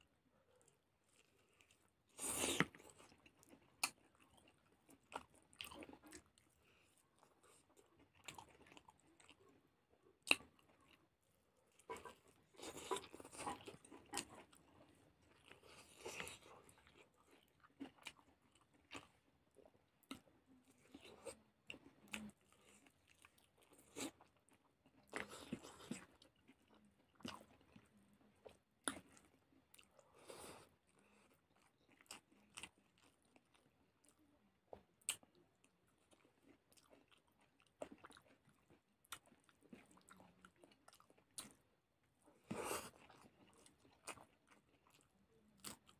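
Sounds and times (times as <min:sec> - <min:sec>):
chewing and biting food: 0:00.4 - 0:45.9.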